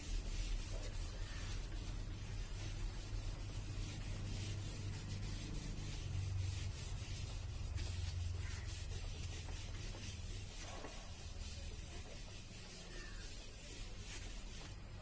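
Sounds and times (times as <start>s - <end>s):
eraser rubbing a whiteboard: 0.0s - 15.0s
low steady hum: 0.0s - 15.0s.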